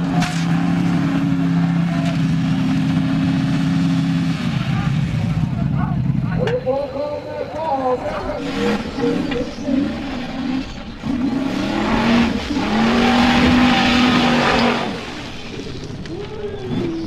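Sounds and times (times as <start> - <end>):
buggy engine revving hard: 0.0 - 6.3, 7.8 - 15.9.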